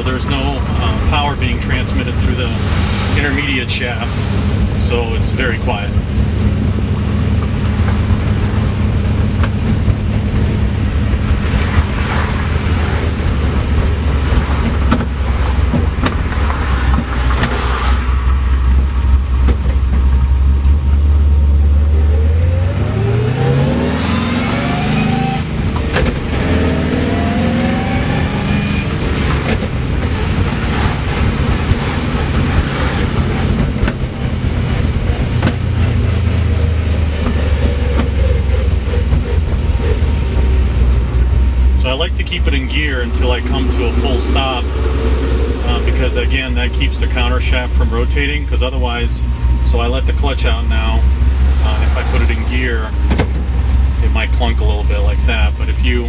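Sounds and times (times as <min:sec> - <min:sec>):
car engine drone inside cabin: 0:00.0 - 0:56.0
engine revving with rising whine: 0:00.0 - 0:56.0.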